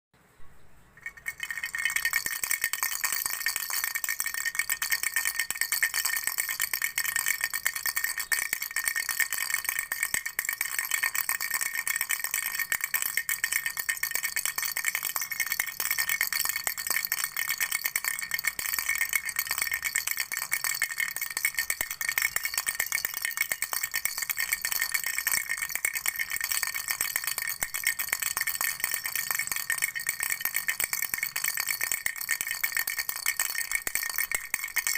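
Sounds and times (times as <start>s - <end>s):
baby rattle shaking: 1.0s - 34.9s.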